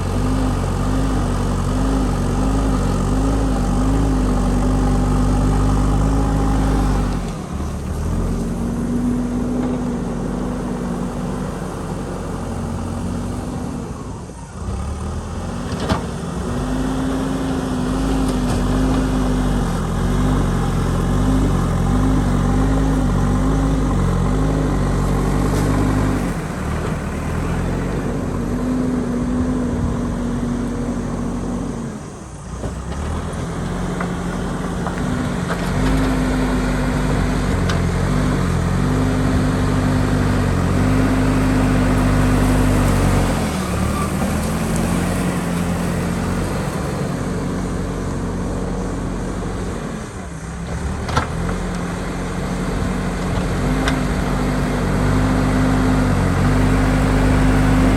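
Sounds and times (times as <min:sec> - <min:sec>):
diesel engine working under load: 0:00.0 - 0:57.9.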